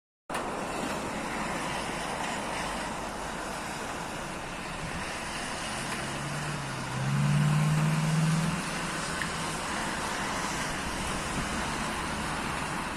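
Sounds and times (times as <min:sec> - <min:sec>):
vehicle engine hum: 0:00.3 - 0:12.9
rain hissing: 0:01.1 - 0:12.9.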